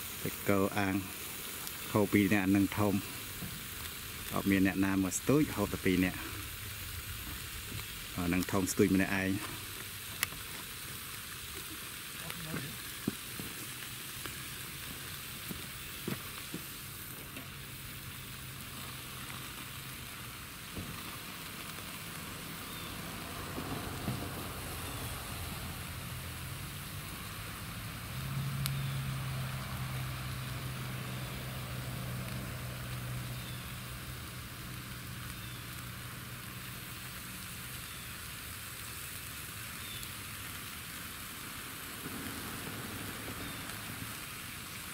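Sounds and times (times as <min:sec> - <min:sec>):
meat sizzling on a grill: 0:00.0 - 0:44.9.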